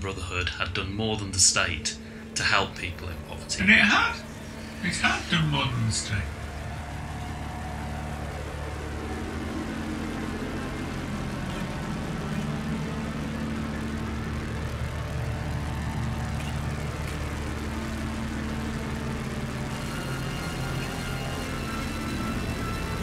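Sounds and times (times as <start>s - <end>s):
low electronic drone: 0.0s - 23.0s
phased shimmer: 2.2s - 23.0s.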